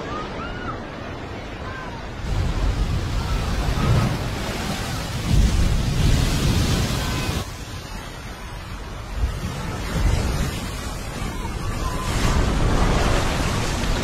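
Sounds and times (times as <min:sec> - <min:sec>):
ocean wave crashing: 0:00.0 - 0:14.0.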